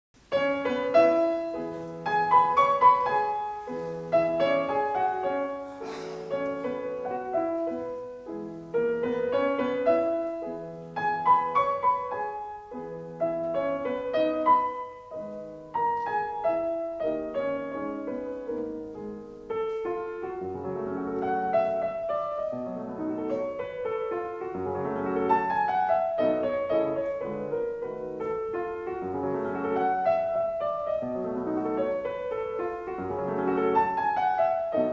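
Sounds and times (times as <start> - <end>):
slow solo piano piece: 0.2 - 34.9.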